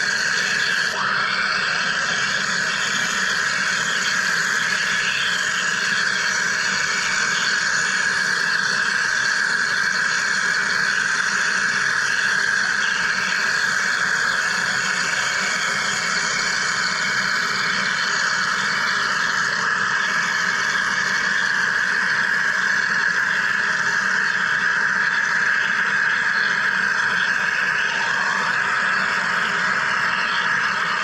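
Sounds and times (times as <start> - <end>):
machine hissing buzz: 0.0 - 31.0.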